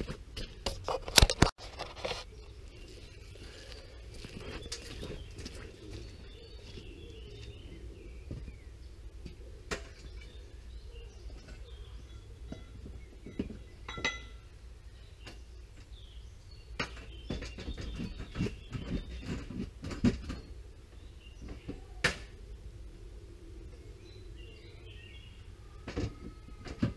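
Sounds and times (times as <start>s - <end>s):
birds chirping faintly: 1.6s - 26.9s.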